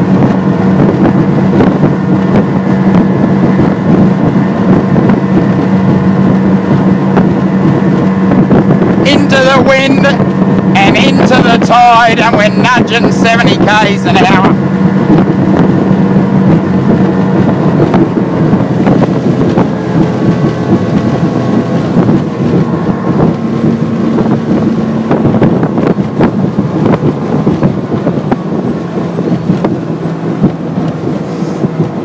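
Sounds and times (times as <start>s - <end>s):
outboard motor running: 0.0s - 32.0s
wind buffeting microphone: 0.0s - 32.0s.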